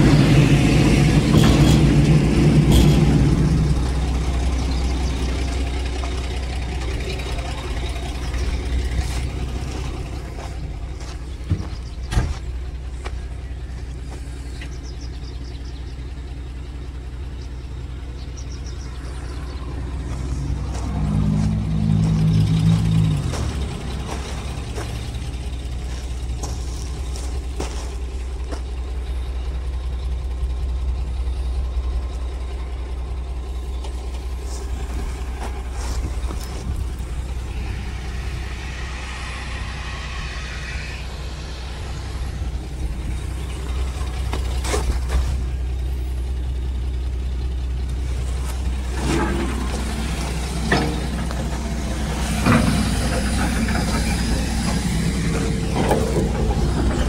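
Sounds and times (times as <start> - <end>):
excavator diesel engine idling: 0.0 - 57.0.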